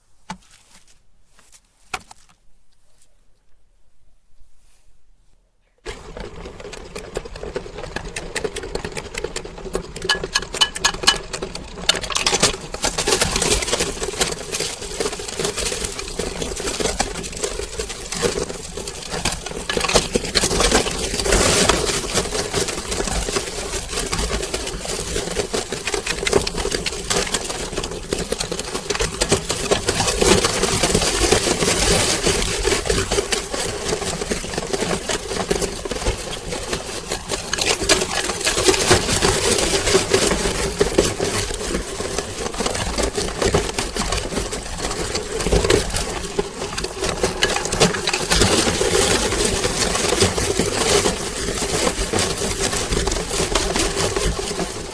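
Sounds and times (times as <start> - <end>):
meat grinder motor hum: 5.9 - 54.0.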